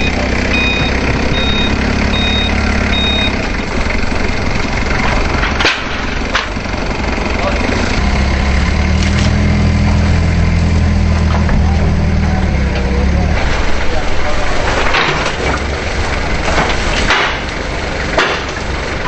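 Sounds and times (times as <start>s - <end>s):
forklift engine running: 0.0s - 19.0s.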